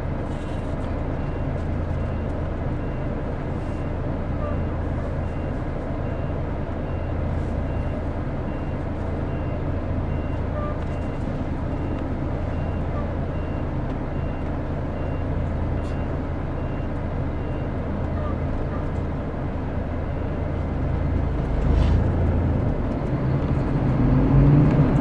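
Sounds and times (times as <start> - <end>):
diesel engine running at low revs: 0.0 - 25.0.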